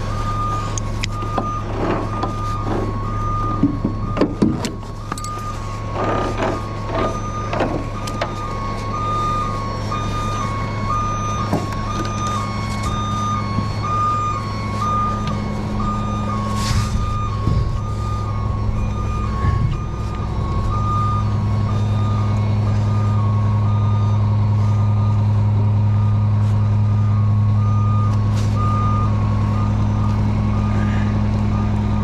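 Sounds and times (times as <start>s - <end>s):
truck diesel engine running: 0.0s - 32.0s
two-tone warning alarm: 0.0s - 32.0s.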